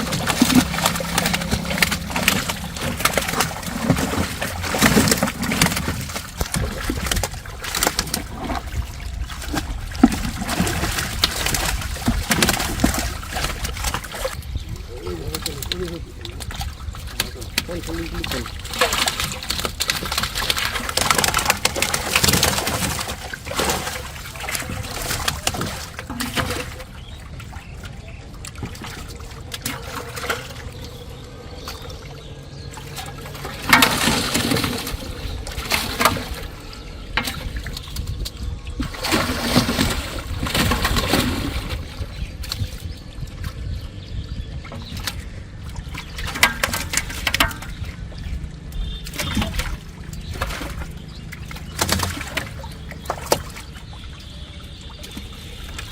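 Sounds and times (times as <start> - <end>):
water splashing and sloshing: 0.0 - 55.9.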